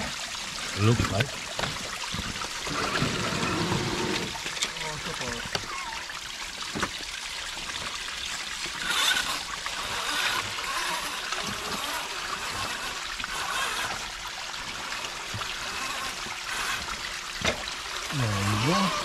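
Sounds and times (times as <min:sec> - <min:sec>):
creek water trickling over rocks: 0:00.0 - 0:19.0.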